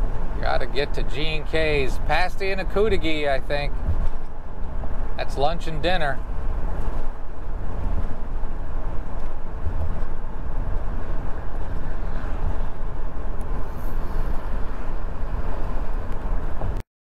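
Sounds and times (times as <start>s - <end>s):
engine running: 0.0s - 16.8s
vehicle cab rumble and road noise: 0.0s - 16.8s.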